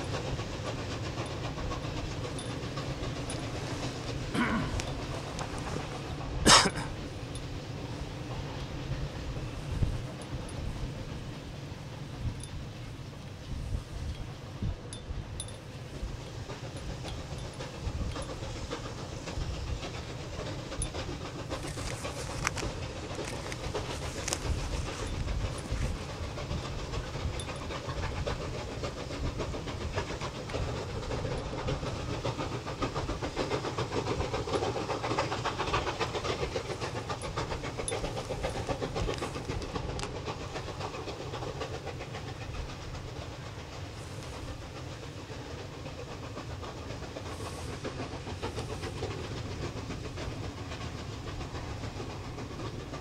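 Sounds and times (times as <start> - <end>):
steam locomotives chuffing: 0.0 - 53.0.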